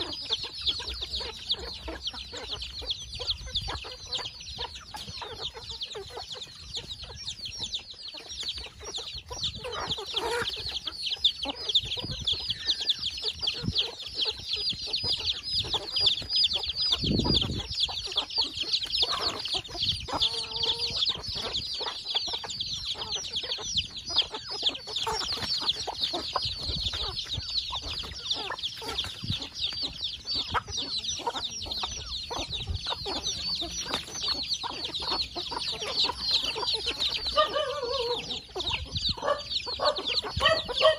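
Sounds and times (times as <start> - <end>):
chickens pecking grain on tarp: 0.0 - 40.9
chicks peeping: 0.0 - 40.9
hens clucking: 0.0 - 40.9.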